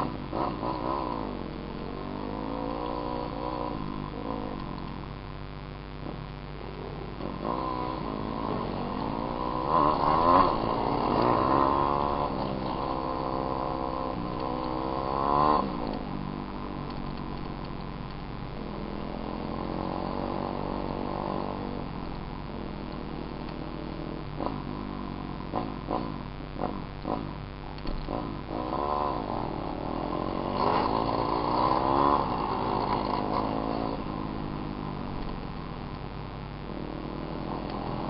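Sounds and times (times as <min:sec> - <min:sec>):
dirt bike engine revving: 0:00.0 - 0:05.1, 0:06.0 - 0:38.0.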